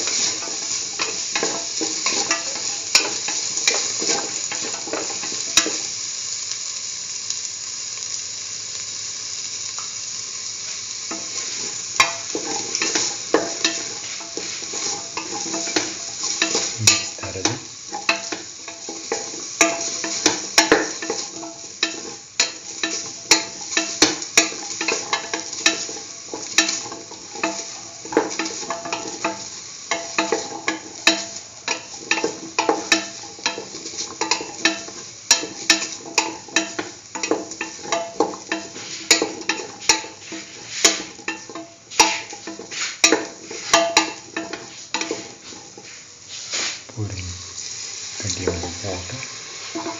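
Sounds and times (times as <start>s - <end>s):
utensil scraping frying pan: 0.0s - 5.9s, 11.0s - 49.9s
food sizzling in frying pan: 0.0s - 49.9s.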